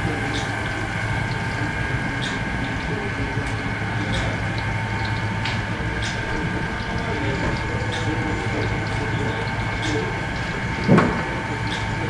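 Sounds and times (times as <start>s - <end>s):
mechanical hum with whining tones: 0.0s - 12.0s.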